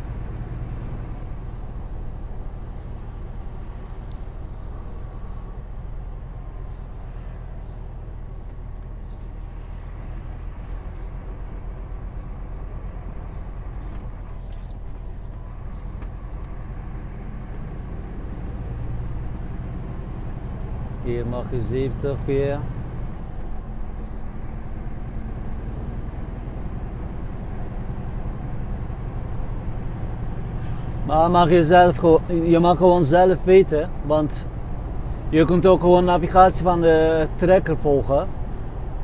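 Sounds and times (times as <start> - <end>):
diesel engine drone inside cab: 0.0 - 39.0.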